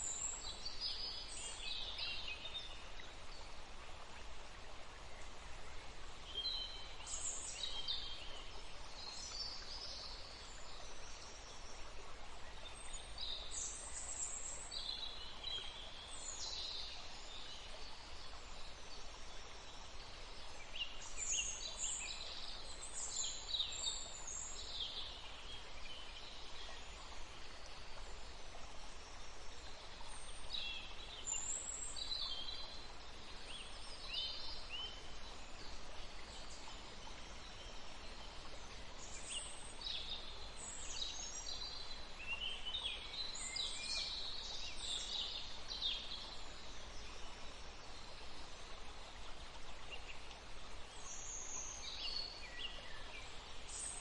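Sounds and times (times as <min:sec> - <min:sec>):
rush of running water: 0:00.0 - 0:54.0.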